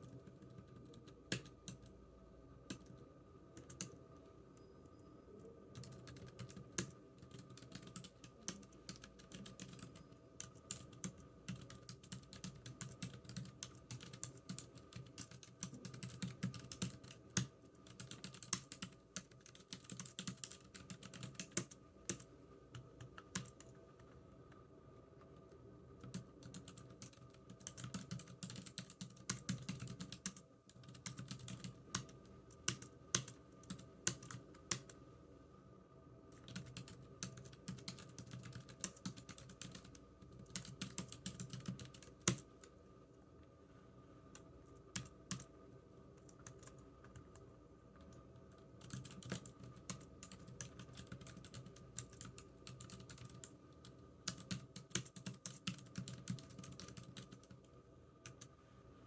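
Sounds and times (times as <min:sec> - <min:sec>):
computer keyboard typing: 0:00.0 - 0:01.9, 0:02.6 - 0:03.0, 0:03.6 - 0:04.0, 0:05.7 - 0:24.2, 0:25.4 - 0:35.0, 0:36.4 - 0:42.6, 0:44.9 - 0:45.5, 0:46.2 - 0:47.4, 0:48.0 - 0:58.5.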